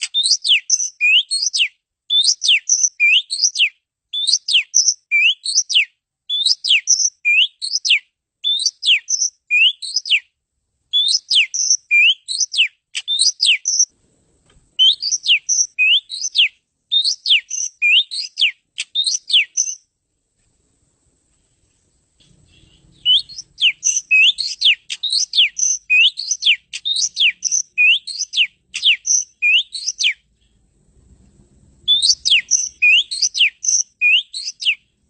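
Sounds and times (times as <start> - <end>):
bird singing clear whistles: 0.0 - 10.3, 10.9 - 13.9, 14.8 - 19.9, 22.4 - 30.3, 31.8 - 34.9.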